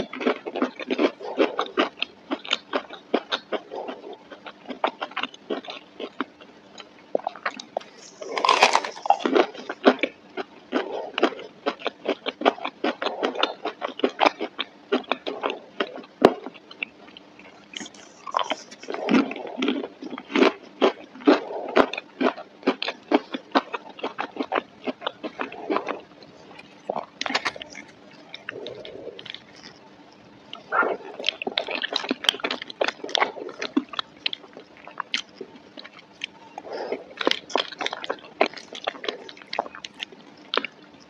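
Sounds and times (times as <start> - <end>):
chewing crunchy food: 0.0 - 41.0.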